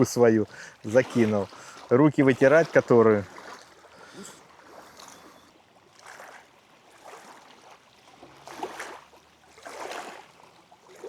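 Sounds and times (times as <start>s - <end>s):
water lapping at shore: 0.0s - 11.0s.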